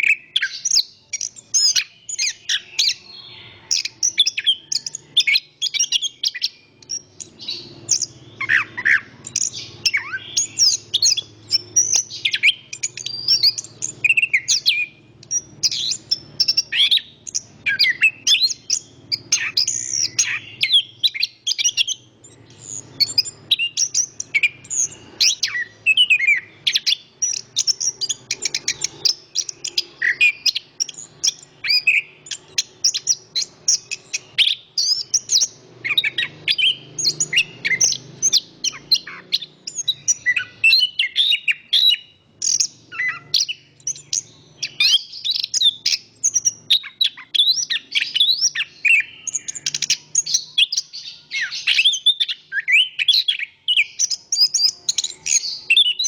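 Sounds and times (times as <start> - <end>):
thrush singing whistles and trills: 0.0 - 56.0.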